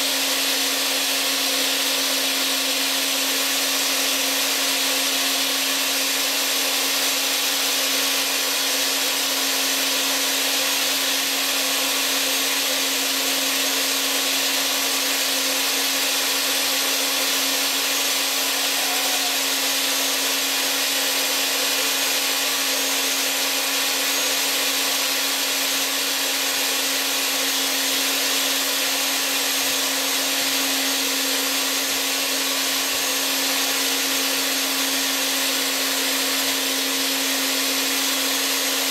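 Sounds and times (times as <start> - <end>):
electric blender running: 0.0 - 38.9.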